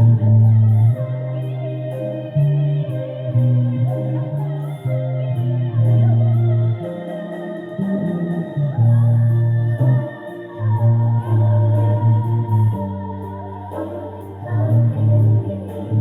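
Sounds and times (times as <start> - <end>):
bass guitar low notes: 0.0 - 16.0
hi-hat ticking: 0.0 - 16.0.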